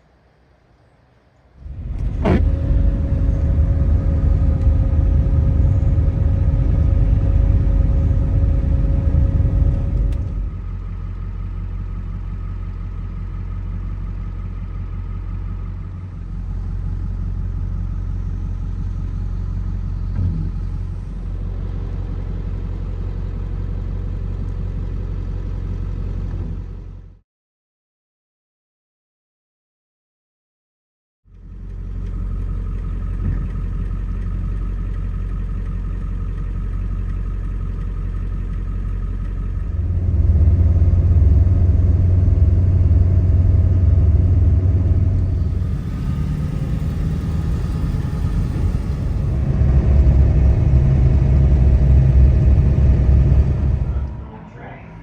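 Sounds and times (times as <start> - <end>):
vehicle engine rumble: 0.0 - 27.2, 31.3 - 55.0.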